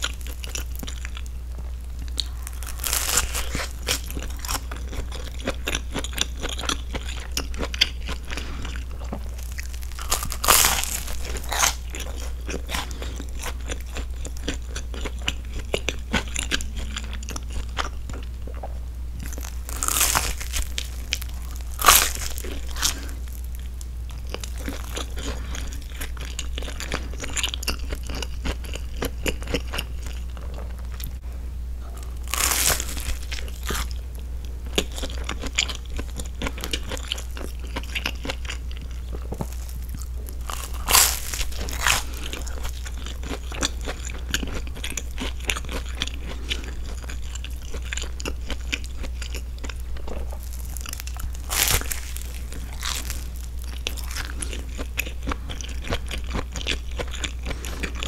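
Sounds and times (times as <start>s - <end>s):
chewing crunchy toasted sandwich: 0.0s - 31.2s, 31.8s - 58.0s
steady low hum: 0.0s - 58.0s.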